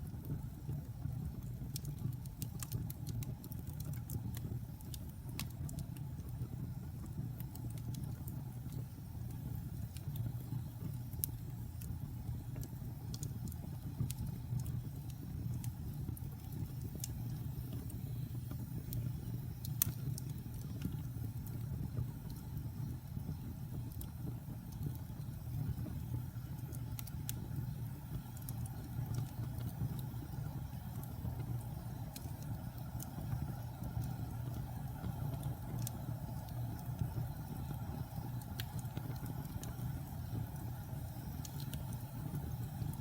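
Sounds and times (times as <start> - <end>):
fire crackling and popping: 0.0 - 43.0
fire roaring in fireplace: 0.0 - 43.0.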